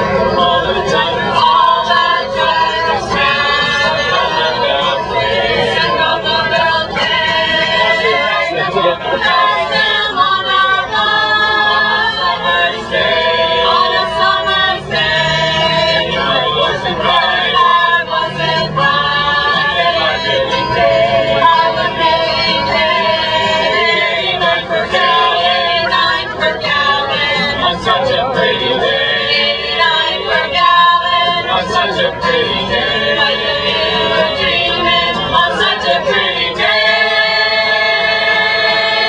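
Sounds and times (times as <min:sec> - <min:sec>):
vocal group singing in harmony: 0:00.0 - 0:39.0.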